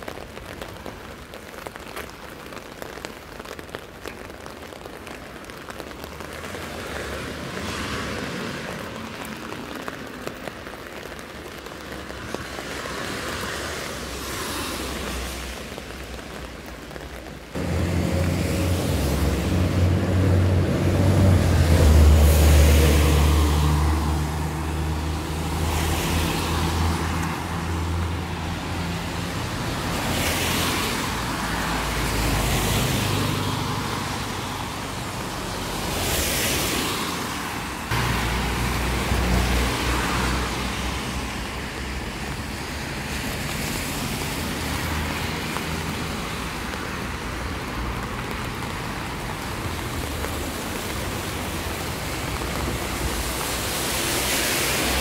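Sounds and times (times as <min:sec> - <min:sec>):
steady rain: 0:00.0 - 0:55.0
tyres hissing on wet road: 0:00.0 - 0:55.0
cars passing: 0:04.2 - 0:55.0.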